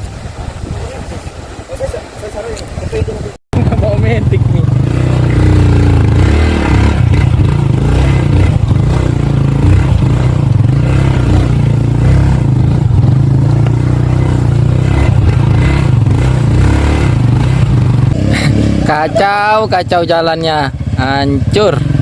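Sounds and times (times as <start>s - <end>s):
motorcycle engine under load: 3.5s - 19.6s, 20.2s - 22.0s.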